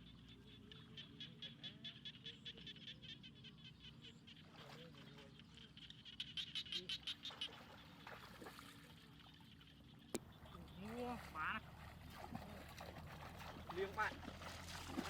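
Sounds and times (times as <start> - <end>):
frogs croaking: 0.0 - 15.0.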